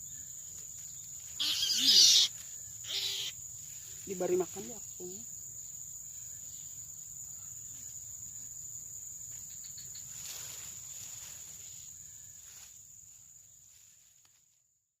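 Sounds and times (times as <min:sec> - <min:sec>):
high-pitched insect trill: 0:00.0 - 0:14.6.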